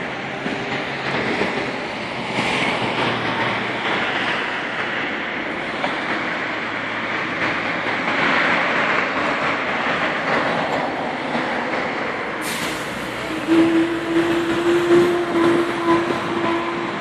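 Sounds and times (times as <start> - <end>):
bus passing: 0.0 - 17.0
road traffic: 0.0 - 17.0.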